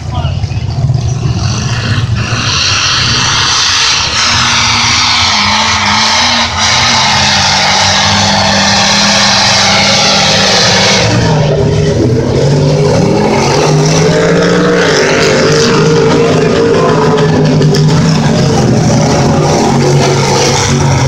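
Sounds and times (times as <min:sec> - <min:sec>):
diesel truck engines revving: 0:00.0 - 0:21.0.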